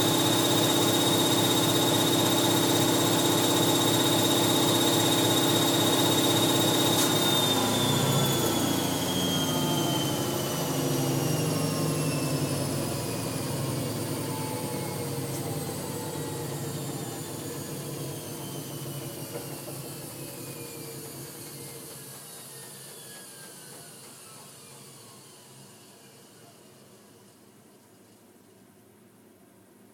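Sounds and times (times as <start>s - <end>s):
washing machine motor whine: 0.0s - 27.7s.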